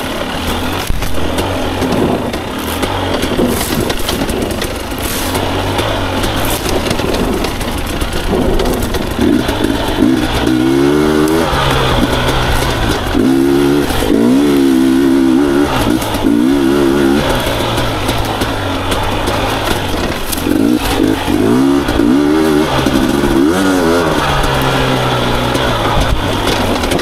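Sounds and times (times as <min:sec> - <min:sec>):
two-stroke motorcycle engine revving: 0:00.0 - 0:27.0.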